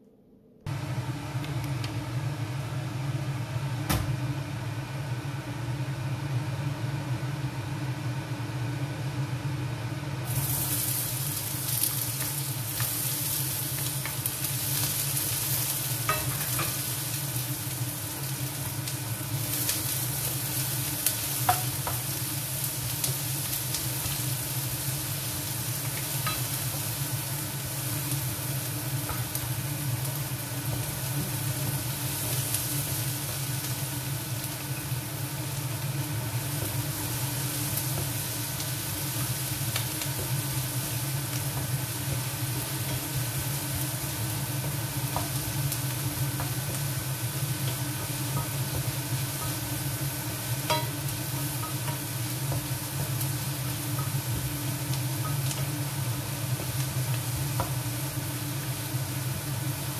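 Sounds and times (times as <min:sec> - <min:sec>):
onion sizzling in hot oil: 0:03.7 - 0:59.9.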